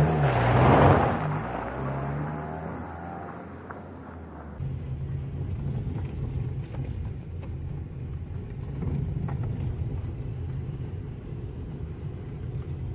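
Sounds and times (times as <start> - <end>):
car engine and tyres rumbling: 0.0 - 12.9.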